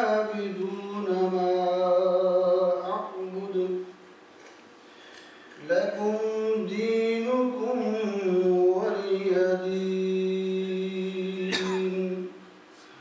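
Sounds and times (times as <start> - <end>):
man chanting melodically: 0.0 - 4.0, 5.6 - 12.4.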